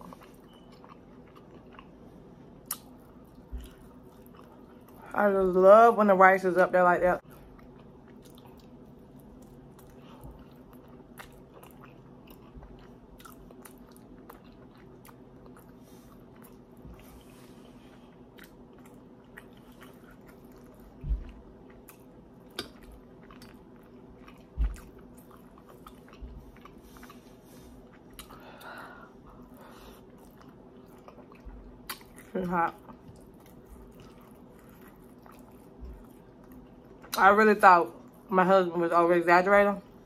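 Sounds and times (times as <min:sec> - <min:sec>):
person chewing crunchy food: 0:00.0 - 0:05.0, 0:07.2 - 0:37.2
steady low hum: 0:00.0 - 0:40.0.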